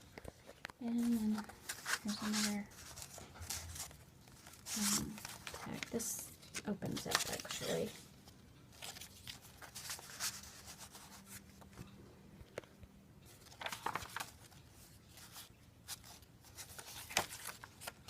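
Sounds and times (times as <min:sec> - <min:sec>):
paper rustling: 0:00.0 - 0:08.0, 0:08.7 - 0:11.9, 0:13.3 - 0:18.0.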